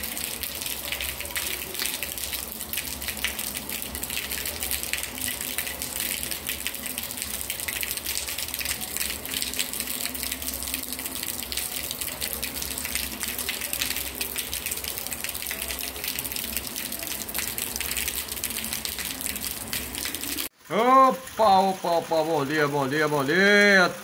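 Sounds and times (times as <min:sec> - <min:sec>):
drops splashing in puddles: 0:00.0 - 0:23.7
rain falling on street: 0:00.0 - 0:24.0.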